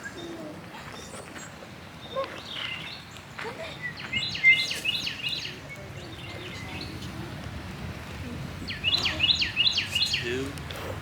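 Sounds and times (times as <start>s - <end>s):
small birds calling: 0.0s - 7.1s, 8.6s - 10.5s.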